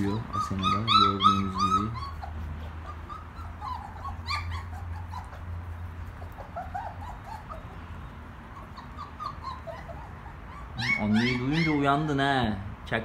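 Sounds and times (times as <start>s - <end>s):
puppies whining and squeaking: 0.0s - 12.7s.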